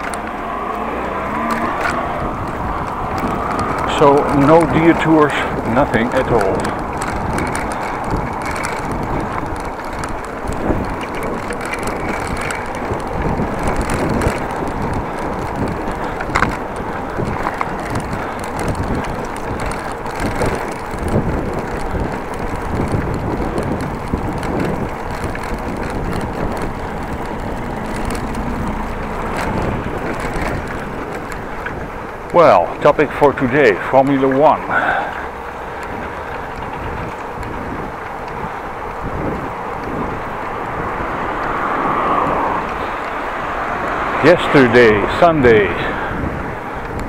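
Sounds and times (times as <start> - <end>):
bicycle tyre rumble and rattle: 0.0 - 47.0
wind noise on microphone: 0.0 - 47.0.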